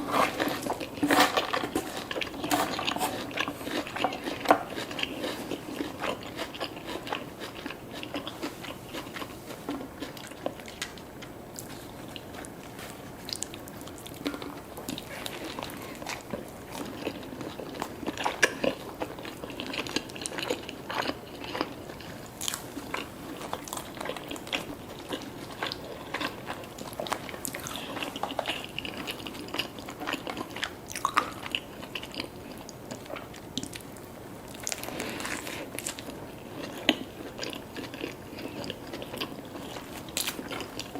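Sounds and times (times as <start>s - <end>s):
crunchy chewing of food: 0.0s - 40.9s.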